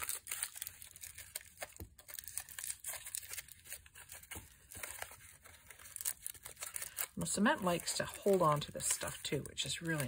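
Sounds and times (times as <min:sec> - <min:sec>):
foil crinkling: 0:00.0 - 0:10.0.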